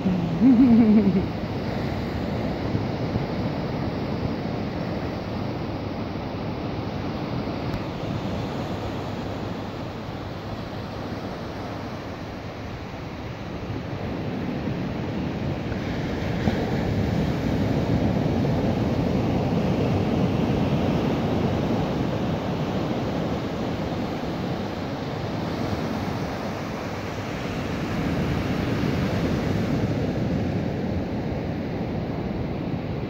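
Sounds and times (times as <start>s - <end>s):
ocean surf breaking on beach: 0.0s - 33.0s.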